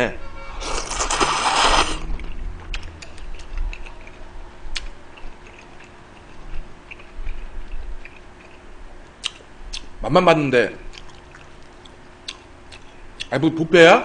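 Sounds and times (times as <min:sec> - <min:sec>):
chewing noodles: 0:00.6 - 0:09.9, 0:10.9 - 0:13.3.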